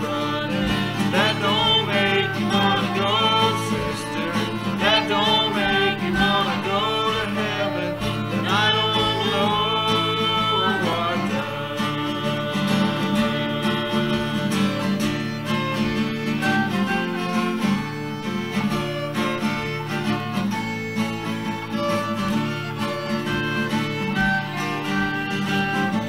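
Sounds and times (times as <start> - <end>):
acoustic guitar: 0.0 - 26.0
fiddle: 0.0 - 26.0.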